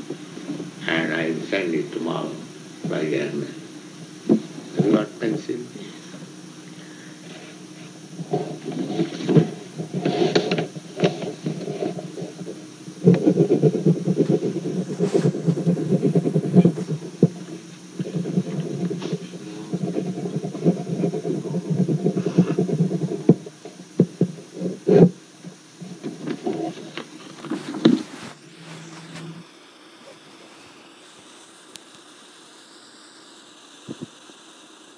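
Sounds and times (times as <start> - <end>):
muffled low room rumble: 0.0 - 29.4
faint tape hiss: 0.0 - 34.9.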